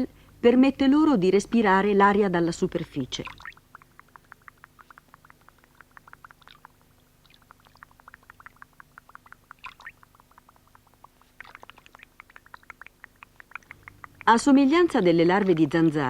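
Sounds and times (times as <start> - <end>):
low steady hum: 0.0 - 16.0
water drops plinking: 2.9 - 16.0.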